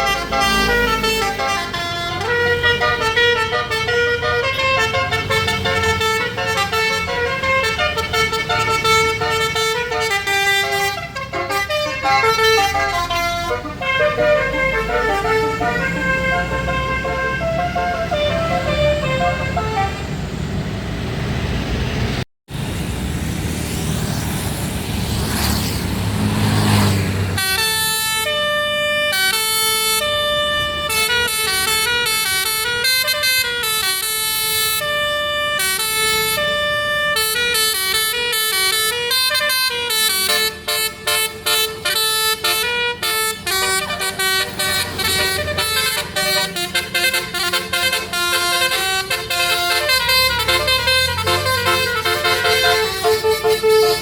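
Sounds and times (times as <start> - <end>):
musical bus horn melody: 0.0 - 20.2, 27.3 - 54.0
traffic and engine rumble: 0.0 - 54.0.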